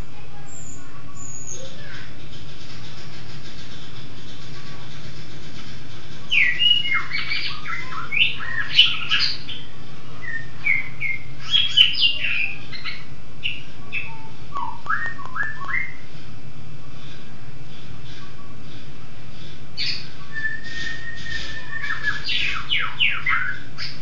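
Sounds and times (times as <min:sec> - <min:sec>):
songbird chirping: 0:00.0 - 0:24.0
steady low hum: 0:00.0 - 0:24.0.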